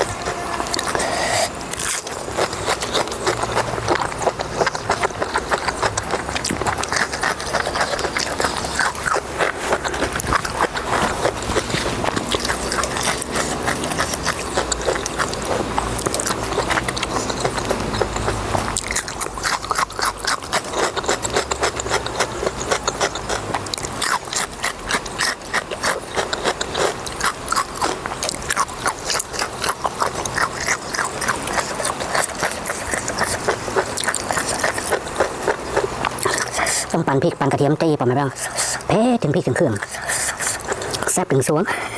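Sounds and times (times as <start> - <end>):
person chewing and crunching: 0.0 - 41.9.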